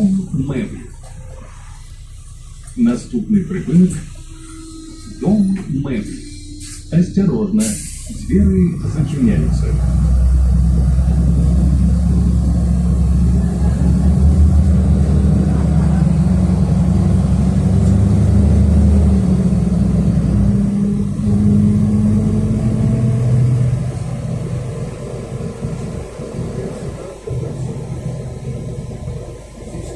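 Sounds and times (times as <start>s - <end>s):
bus engine pulling away: 0.0s - 29.9s.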